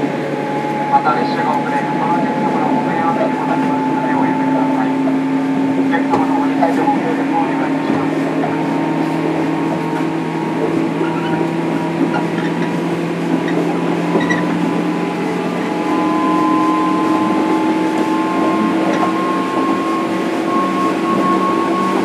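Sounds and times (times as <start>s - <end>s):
electric train motor hum: 0.0s - 22.0s
wheel-on-rail rumble: 0.0s - 22.0s.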